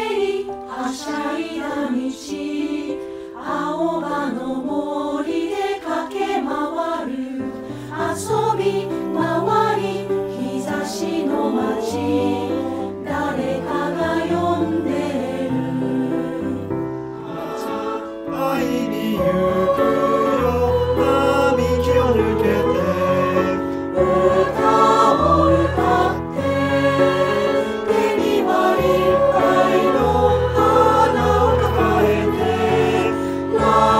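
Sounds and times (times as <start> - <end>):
choir singing in harmony: 0.0 - 33.9.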